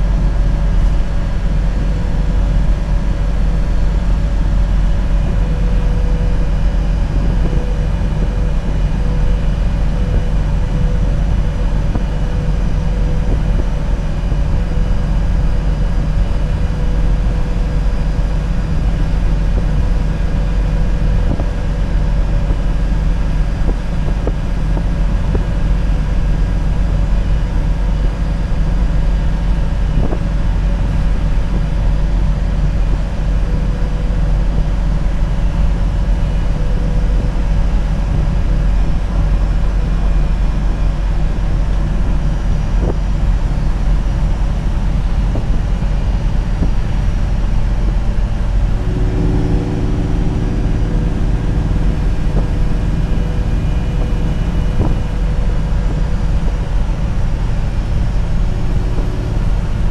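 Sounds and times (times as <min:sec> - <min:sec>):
bus engine drone: 0:00.0 - 0:59.9
higher humming engine note: 0:00.0 - 0:59.9.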